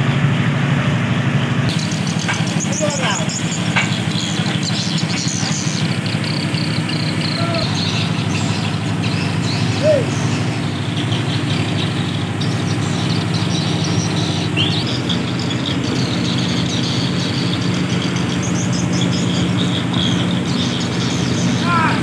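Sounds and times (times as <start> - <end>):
small engine humming: 0.0 - 22.0
high chirps and squeaks: 1.7 - 22.0.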